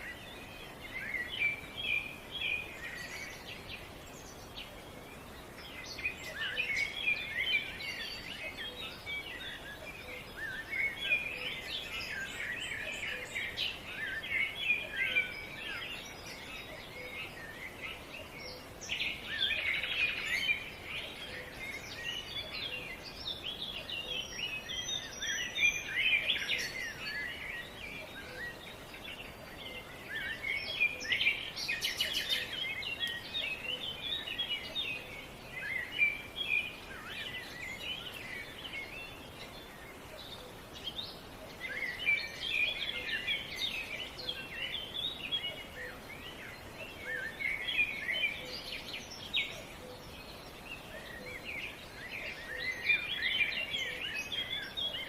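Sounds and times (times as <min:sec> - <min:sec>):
faint outdoor background: 0:00.0 - 0:55.0
small birds chorus: 0:00.0 - 0:55.0.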